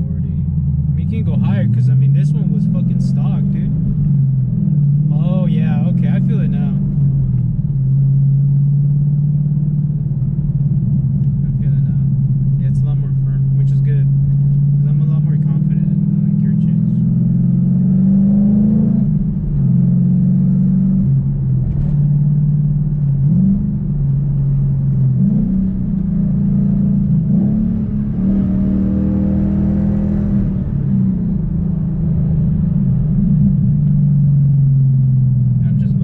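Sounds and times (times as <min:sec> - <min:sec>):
car engine shifting gears: 0:00.0 - 0:36.0.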